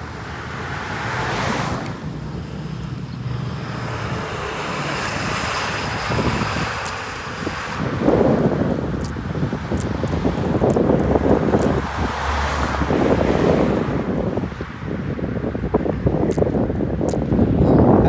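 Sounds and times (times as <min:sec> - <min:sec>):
cars passing: 0:00.0 - 0:18.0
wind rumbling on microphone: 0:00.0 - 0:18.0.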